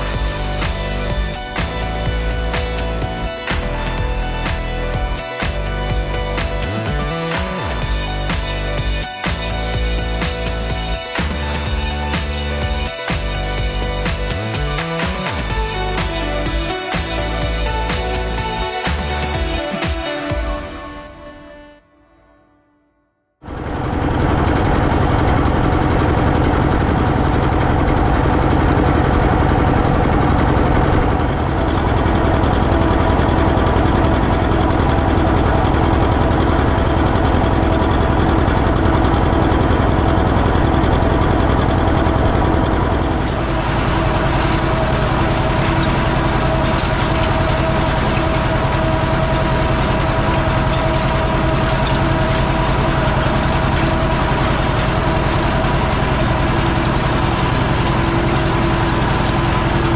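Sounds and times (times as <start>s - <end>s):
tractor diesel engine running: 0.0s - 20.7s, 23.4s - 59.9s.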